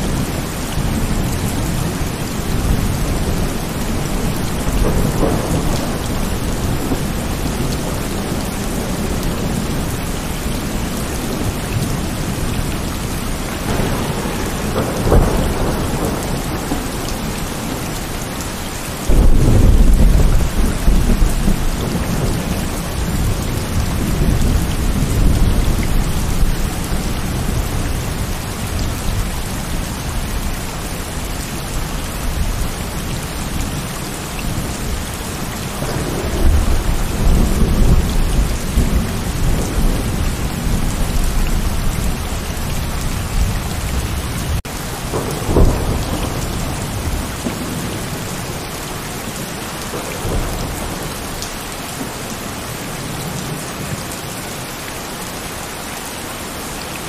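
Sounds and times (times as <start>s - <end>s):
thunder rumbling: 0.0s - 54.1s
heavy rain falling: 0.0s - 57.0s.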